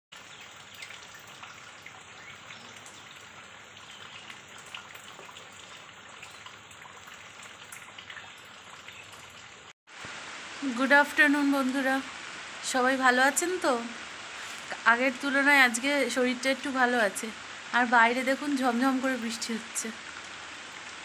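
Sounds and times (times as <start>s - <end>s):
heavy rain on water: 0.2s - 21.0s.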